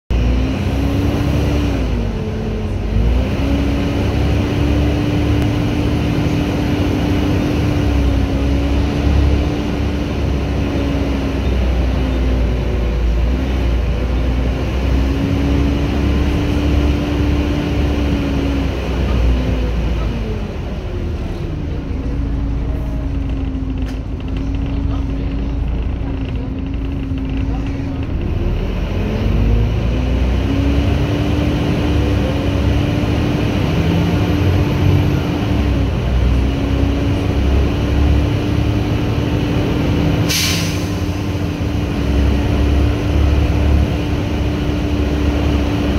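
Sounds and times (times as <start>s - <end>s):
bus drivetrain whine: 0.1s - 45.9s
bus engine rumble: 0.1s - 45.9s.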